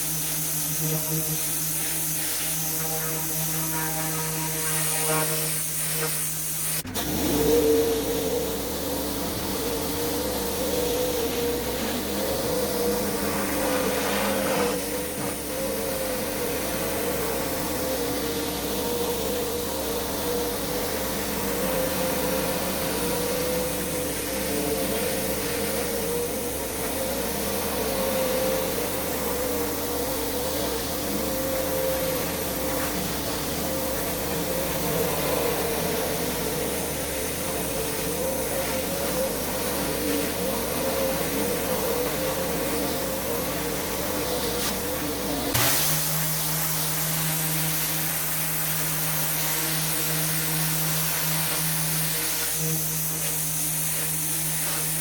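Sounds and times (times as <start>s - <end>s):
constant whine: 0.0s - 55.0s
hissing water spray: 0.0s - 55.0s
pressure washer engine hum: 0.0s - 55.0s.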